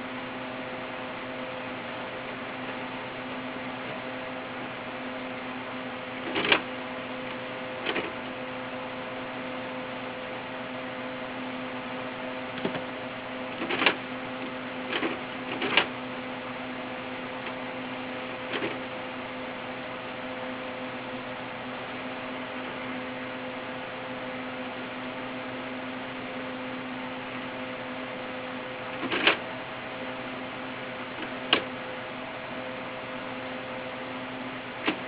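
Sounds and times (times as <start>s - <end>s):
electrical hum with hiss: 0.0s - 35.0s.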